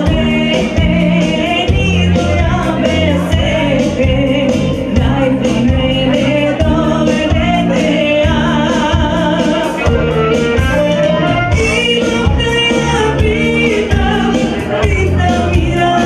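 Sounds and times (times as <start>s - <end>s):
woman singing folk song: 0.0s - 9.9s, 11.6s - 16.0s
amplified backing music with beat: 0.0s - 16.0s.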